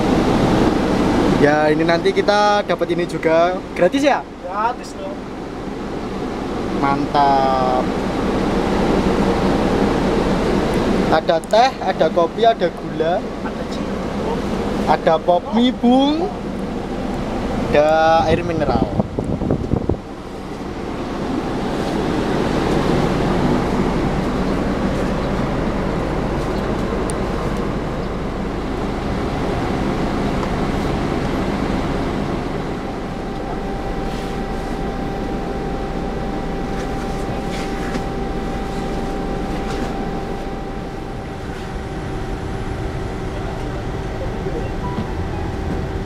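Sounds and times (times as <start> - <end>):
bus cabin running noise: 0.0 - 46.0
steady high whine: 0.0 - 46.0.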